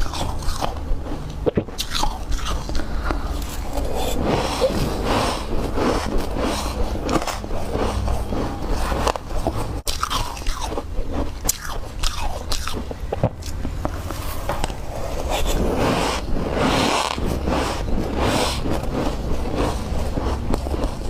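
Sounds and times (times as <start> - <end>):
snow being chewed crunching: 0.0 - 21.0.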